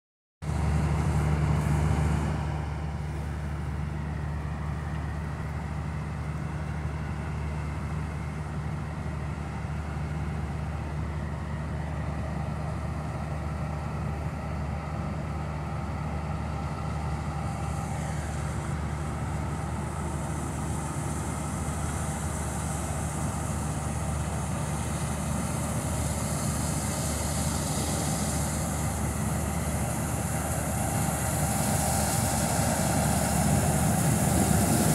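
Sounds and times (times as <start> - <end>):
combine harvester engine drone: 0.4 - 34.9.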